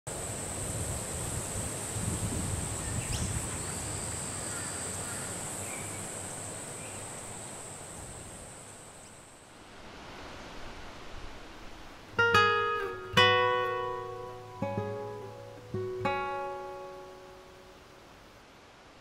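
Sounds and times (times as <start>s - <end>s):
faint insect chirps: 0.1s - 19.0s
soft wind-like hiss: 0.1s - 19.0s.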